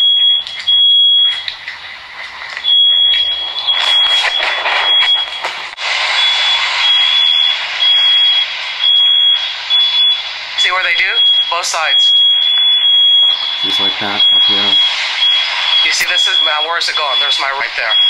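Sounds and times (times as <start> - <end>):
smoke alarm beeping: 0.0 - 18.0.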